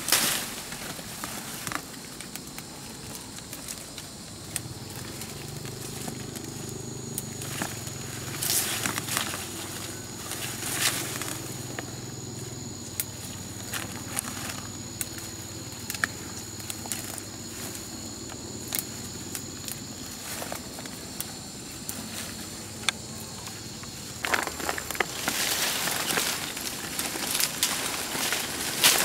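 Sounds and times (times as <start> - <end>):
stems snapping: 0.0 - 11.9, 12.8 - 29.0
high insect drone: 0.0 - 29.0
leaves rustling: 0.0 - 29.0.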